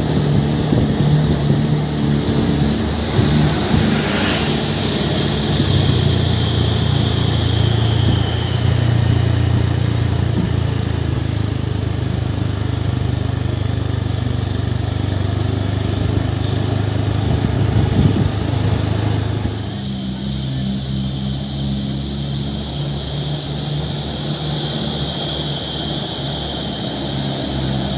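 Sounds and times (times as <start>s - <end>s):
truck diesel engine running: 0.0s - 27.9s.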